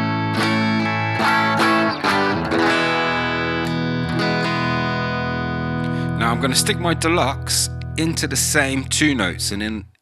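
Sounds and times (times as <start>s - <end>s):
electric guitar chords: 0.0s - 9.7s.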